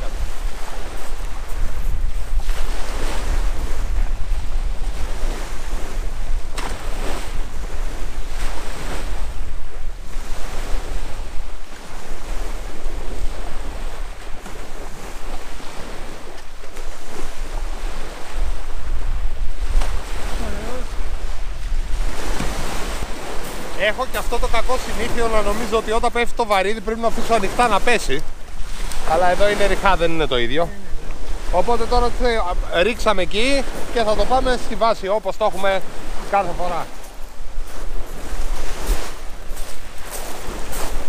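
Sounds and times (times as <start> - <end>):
sea waves washing onto shore: 0.0 - 41.0
wind buffeting microphone: 0.0 - 41.0.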